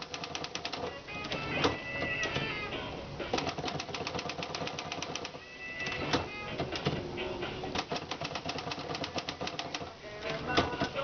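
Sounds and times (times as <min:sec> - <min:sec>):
manual typewriter keystrokes: 0:00.0 - 0:02.5, 0:03.3 - 0:07.0, 0:07.7 - 0:11.0.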